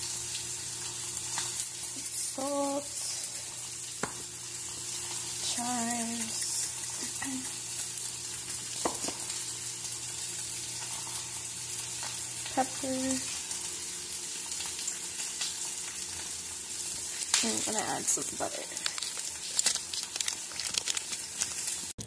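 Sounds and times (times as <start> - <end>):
milk and potatoes sizzling in a pot: 0.0 - 22.0.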